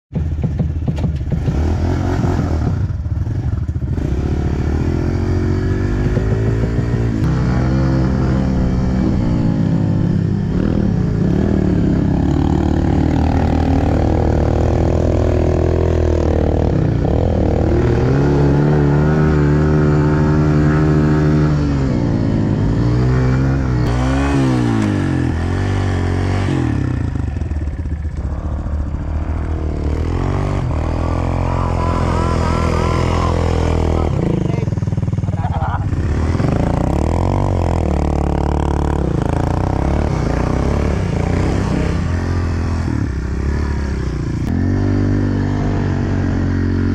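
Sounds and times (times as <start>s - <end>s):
motorbike engine revving: 0.1s - 46.9s.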